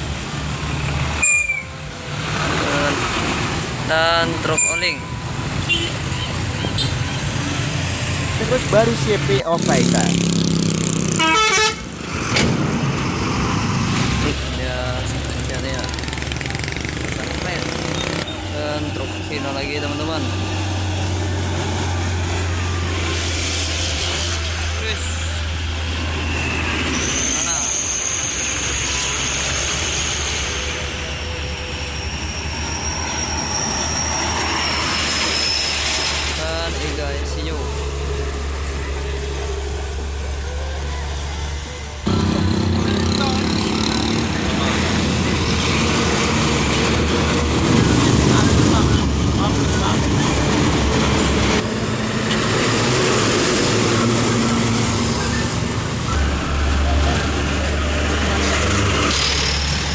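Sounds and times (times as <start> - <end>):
heavy truck passing: 0.0 - 59.9.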